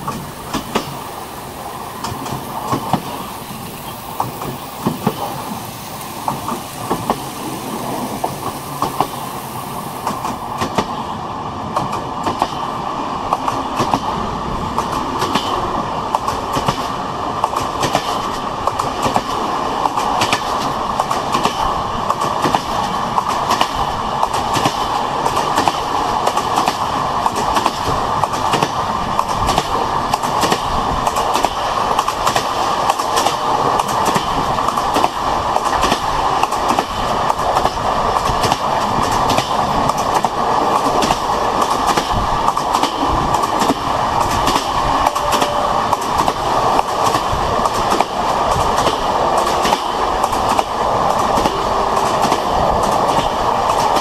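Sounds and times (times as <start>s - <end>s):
train wheels clicking on rails: 0.0s - 54.0s.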